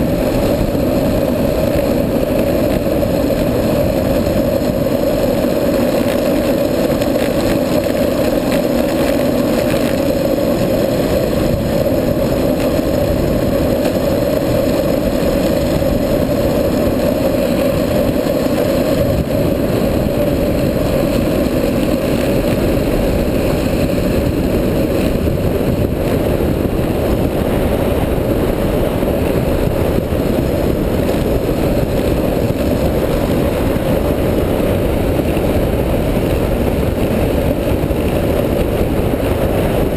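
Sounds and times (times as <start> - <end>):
wheels rolling on asphalt: 0.0 - 39.9
wind roaring over microphone: 0.0 - 39.9.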